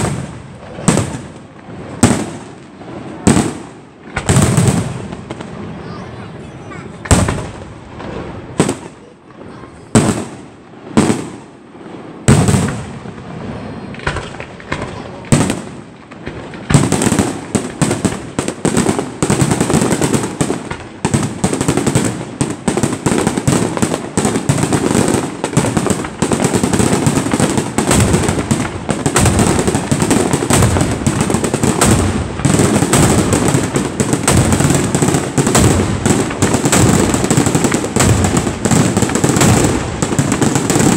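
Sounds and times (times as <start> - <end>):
firework barrage bangs and crackling: 0.0 - 40.9.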